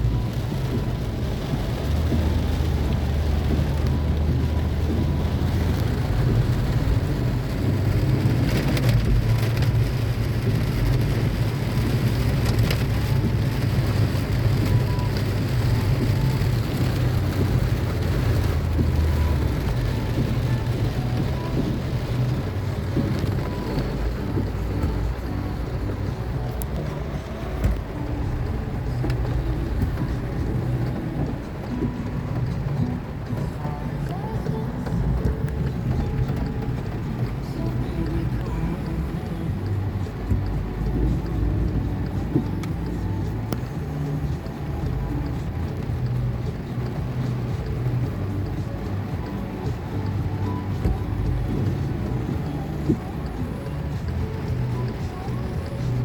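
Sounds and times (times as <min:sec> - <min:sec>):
deep low rumble: 0:00.0 - 0:49.5
heavy rain pouring: 0:00.0 - 0:56.0
vehicle engine running low: 0:00.0 - 0:56.0.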